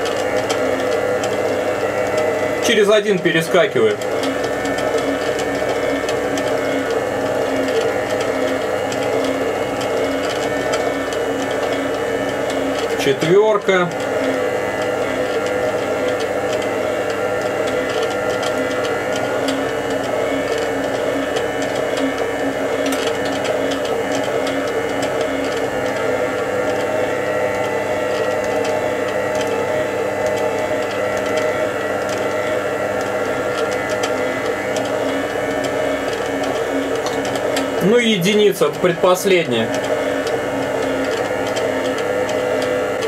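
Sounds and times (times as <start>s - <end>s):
stand mixer motor humming: 0.0s - 43.0s.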